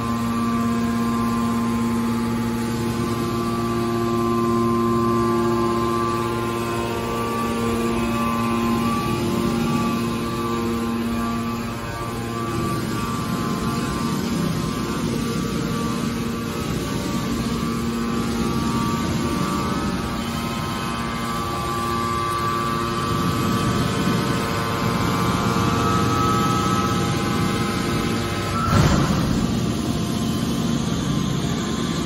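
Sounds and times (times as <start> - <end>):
hydraulic motor and pump humming: 0.0 - 32.0.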